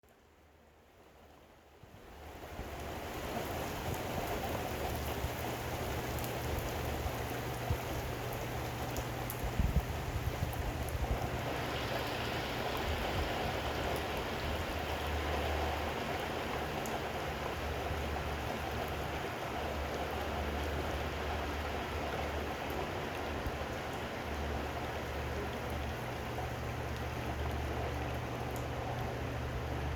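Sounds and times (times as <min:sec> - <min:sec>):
heavy rain: 0:02.2 - 0:29.9.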